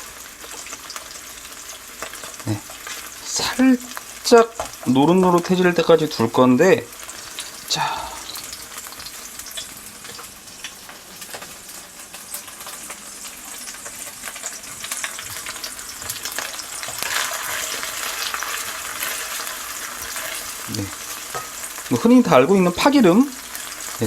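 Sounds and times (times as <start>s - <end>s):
onion sizzling in oil: 0.0s - 24.0s.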